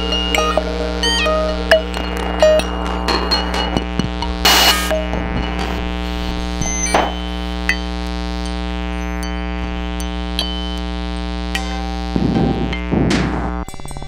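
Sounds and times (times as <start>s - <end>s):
synthesizer drone chord: 0.0s - 6.5s, 7.2s - 13.8s
low bass: 0.0s - 14.0s
noisy synth swell: 0.0s - 14.0s.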